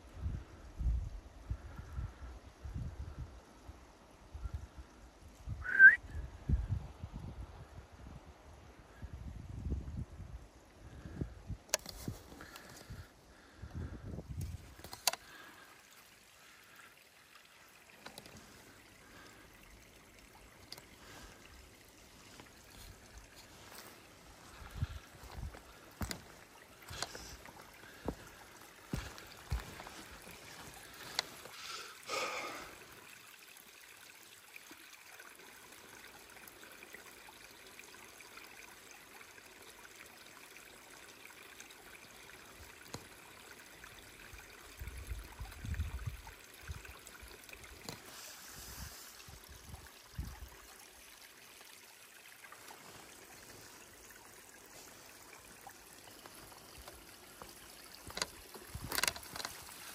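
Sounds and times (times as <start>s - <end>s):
steady outdoor hiss: 0.0s - 59.9s
trickling water: 0.0s - 59.9s.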